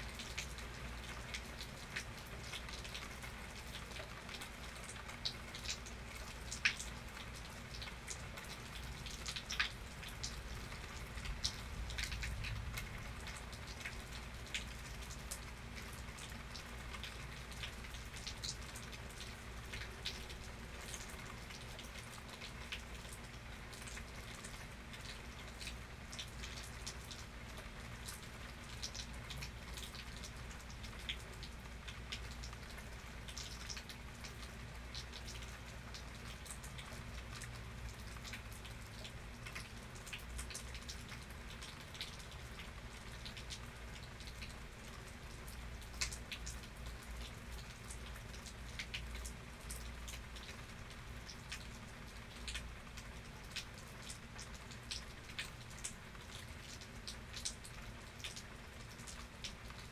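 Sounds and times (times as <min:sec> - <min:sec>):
rain falling: 0:00.0 - 0:59.9
raindrops ticking on a surface: 0:00.0 - 0:59.9.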